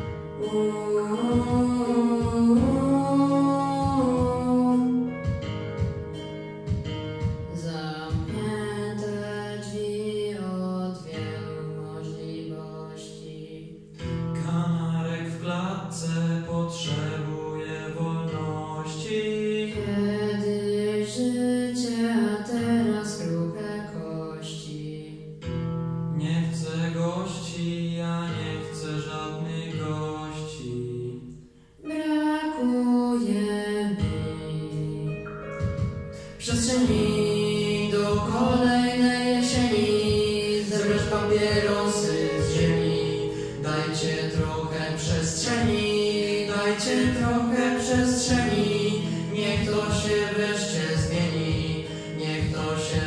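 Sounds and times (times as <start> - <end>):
instrumental backing track: 0.0 - 24.0, 25.1 - 53.0
boys singing pop duet: 0.0 - 25.4, 26.1 - 53.0.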